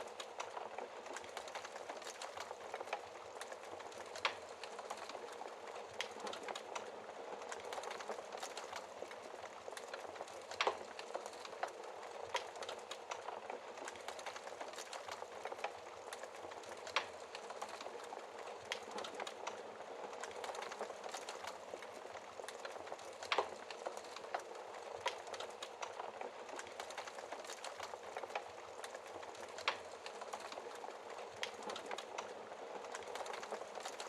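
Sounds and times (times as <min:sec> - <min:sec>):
logs crackling and popping: 0:00.0 - 0:34.0.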